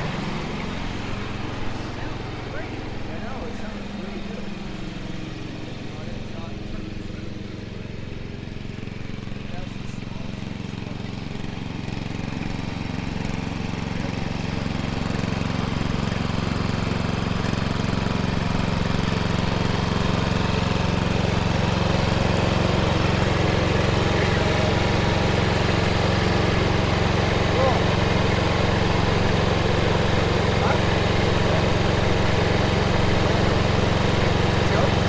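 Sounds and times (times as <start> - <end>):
riding lawn mower engine running: 0.0 - 35.0.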